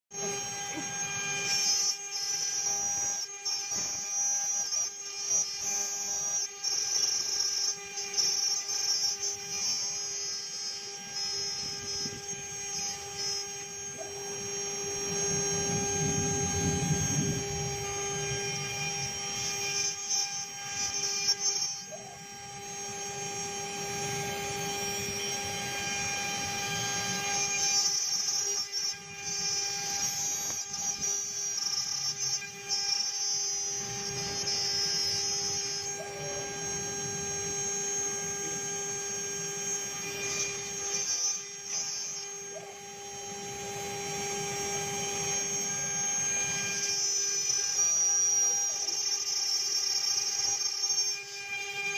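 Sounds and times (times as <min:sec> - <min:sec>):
spindle whining: 0:00.1 - 0:51.9.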